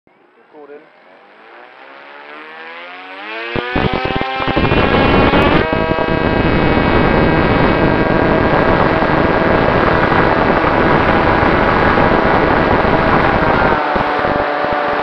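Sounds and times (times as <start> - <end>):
model aircraft motor whine: 0.8 - 15.0
rushing air and propeller noise: 1.4 - 15.0.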